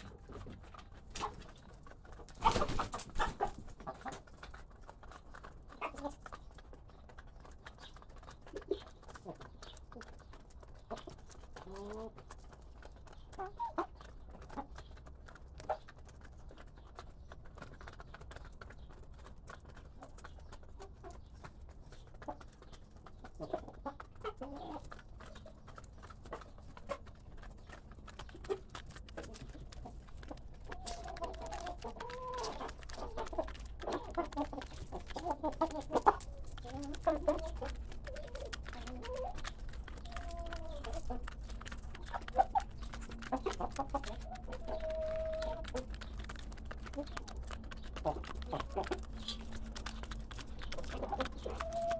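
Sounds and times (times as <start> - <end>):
beaks tapping the ground: 0.0 - 51.9
hens clucking: 0.0 - 51.9.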